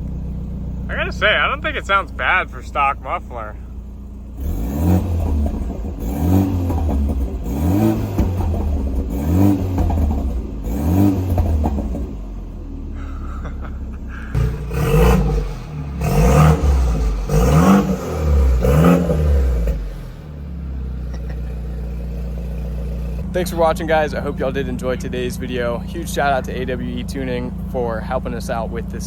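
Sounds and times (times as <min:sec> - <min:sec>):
car engine idling: 0:00.0 - 0:29.0
car engine revving: 0:00.0 - 0:29.0.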